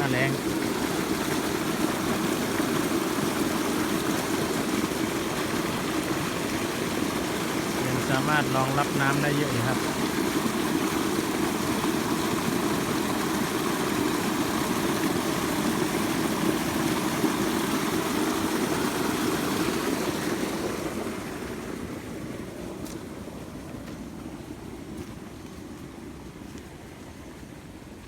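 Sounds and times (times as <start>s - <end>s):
water rushing into a pond: 0.0s - 28.0s.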